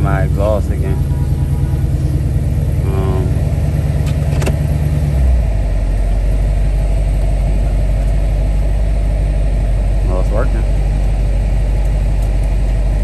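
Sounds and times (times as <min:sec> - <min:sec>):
car engine exhaust drone: 0:00.0 - 0:13.0.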